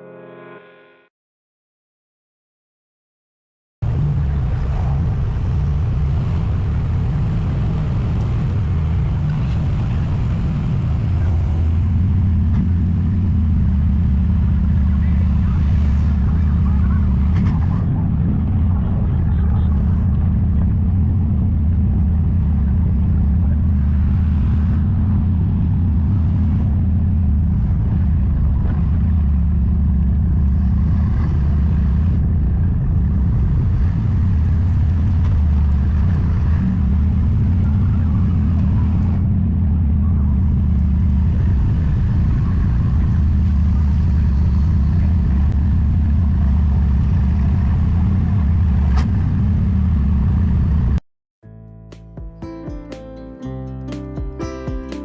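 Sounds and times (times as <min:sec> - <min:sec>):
vehicle engine and road noise: 0:03.8 - 0:51.0.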